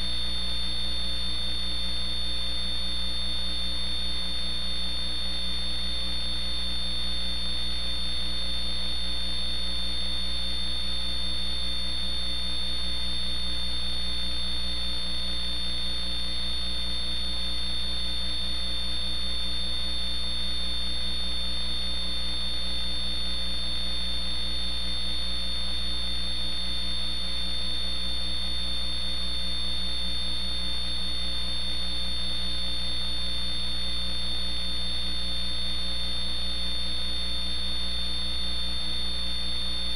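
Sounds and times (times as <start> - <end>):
electrical mains hum: 0.0 - 39.9
high constant whine: 0.0 - 39.9.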